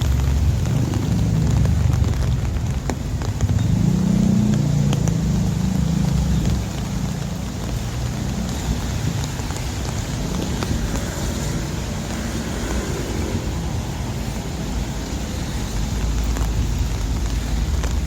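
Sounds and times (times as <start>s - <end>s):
rain hiss: 0.0s - 18.0s
traffic rumble: 0.0s - 18.0s
wet road noise: 0.0s - 18.0s.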